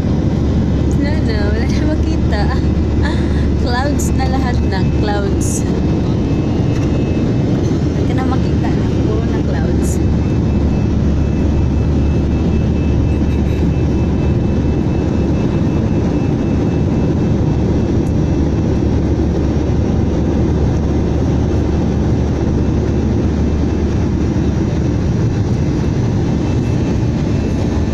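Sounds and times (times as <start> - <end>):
airliner cabin rumble: 0.0 - 27.9.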